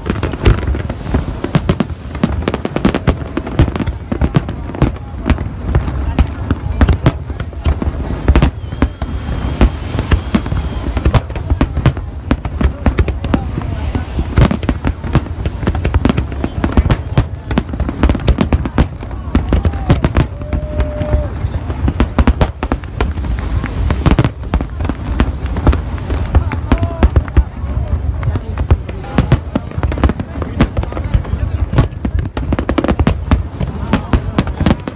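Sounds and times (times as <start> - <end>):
deep fireworks booms: 0.0 - 34.9
fireworks bangs and crackles: 0.0 - 34.9.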